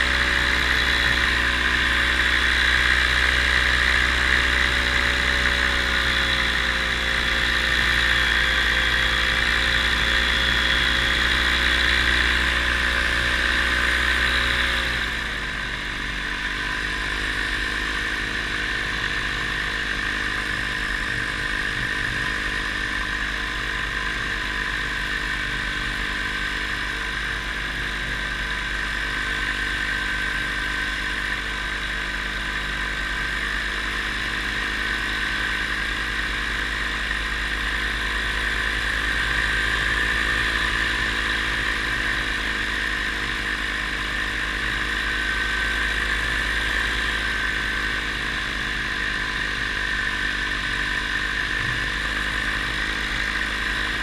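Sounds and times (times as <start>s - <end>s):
paramotor engine droning: 0.0s - 54.0s.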